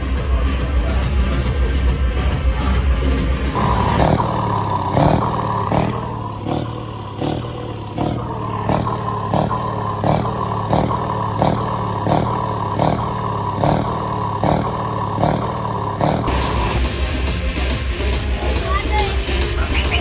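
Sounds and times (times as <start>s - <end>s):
truck engine running steadily: 0.0s - 20.0s.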